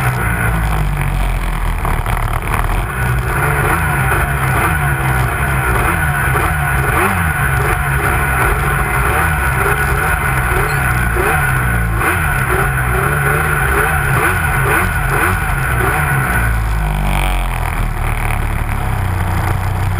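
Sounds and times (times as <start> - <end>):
snowmobile engine revving: 0.0 - 19.9.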